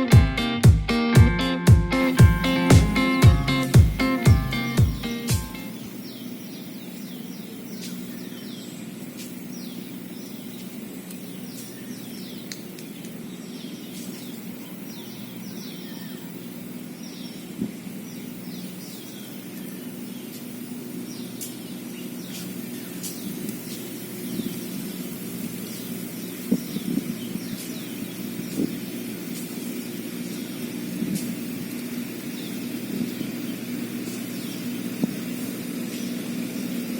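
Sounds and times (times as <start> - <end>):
birds chirping: 0.0 - 36.9
steady low hum: 0.0 - 36.9.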